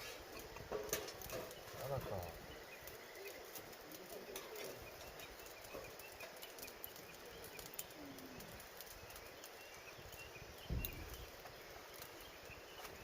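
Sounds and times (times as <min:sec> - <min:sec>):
wood fire crackling: 0:00.0 - 0:13.0
faint birds calling: 0:00.2 - 0:13.0.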